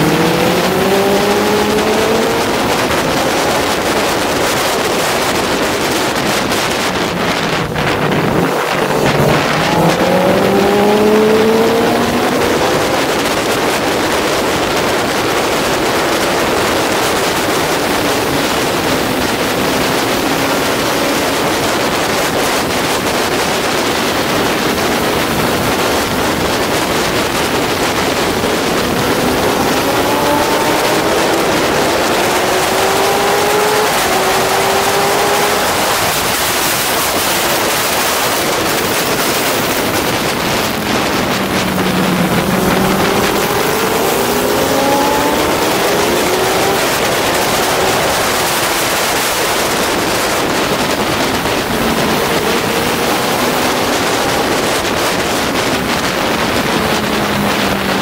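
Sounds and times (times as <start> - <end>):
motorcycle engine revving: 0.0 - 58.0
wind rush on microphone: 0.0 - 58.0.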